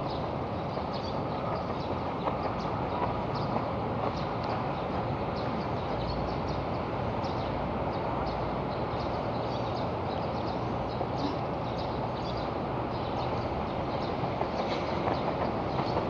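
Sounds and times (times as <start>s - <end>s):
urban background rumble: 0.0s - 16.0s
small birds chirping: 0.1s - 16.0s.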